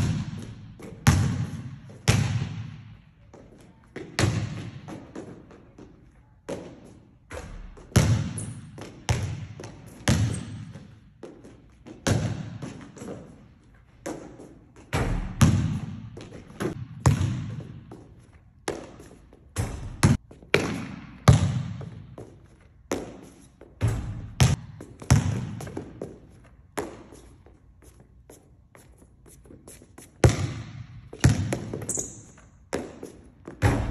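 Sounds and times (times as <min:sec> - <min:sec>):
basketball bouncing on gym floor: 0:00.0 - 0:27.6, 0:30.2 - 0:33.9.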